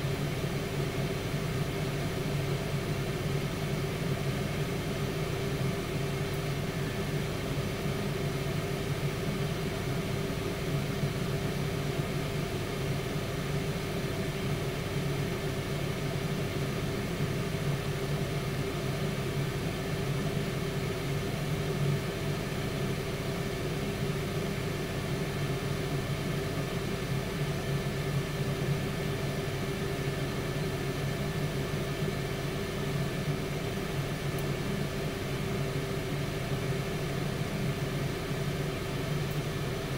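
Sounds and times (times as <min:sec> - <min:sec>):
air fryer fan humming: 0:00.0 - 0:39.9.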